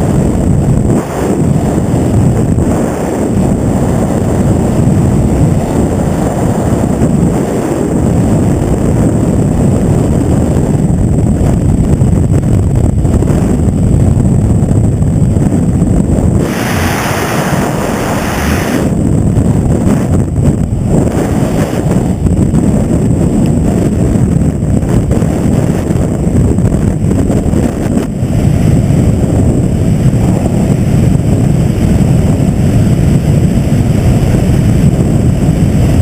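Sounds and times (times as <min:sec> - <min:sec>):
low steady rumble: 0:00.0 - 0:36.0
wind buffeting microphone: 0:00.0 - 0:36.0.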